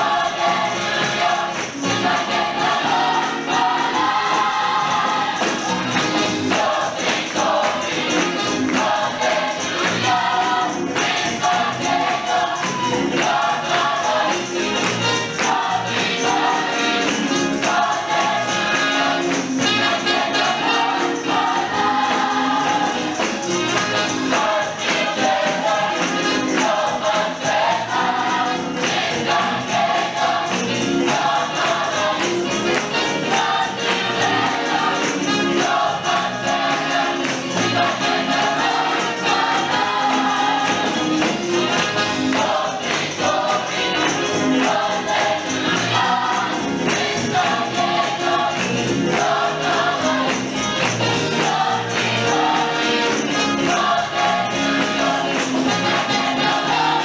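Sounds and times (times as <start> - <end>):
choir singing gospel: 0.0 - 57.0
tambourine shaken and struck: 0.0 - 57.0.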